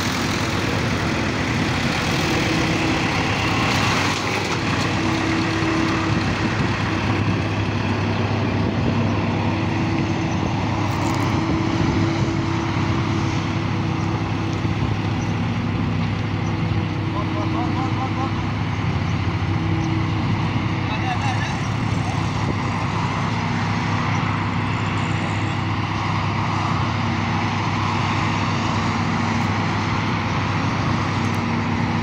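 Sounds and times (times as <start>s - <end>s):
diesel engines running: 0.0s - 32.0s.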